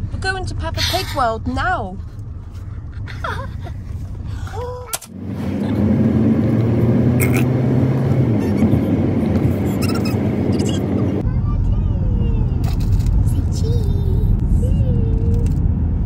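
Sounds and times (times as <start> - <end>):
car road noise and engine hum: 0.0 - 16.0.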